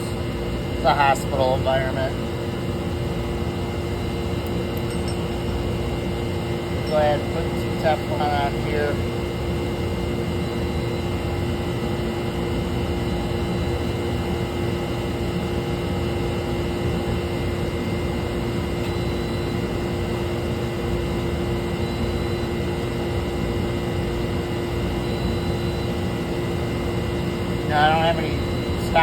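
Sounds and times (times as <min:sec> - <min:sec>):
machinery humming drone: 0:00.0 - 0:29.0.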